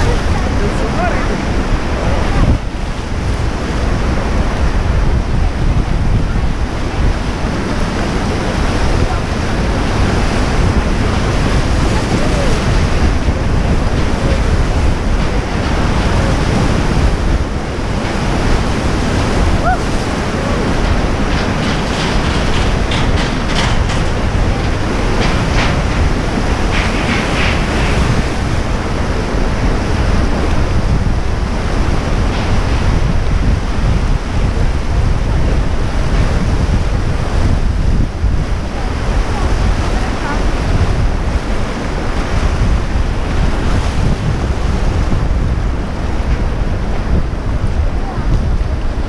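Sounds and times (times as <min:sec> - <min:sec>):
river rapids rushing: 0:00.0 - 0:49.0
wind buffeting microphone: 0:00.0 - 0:49.0.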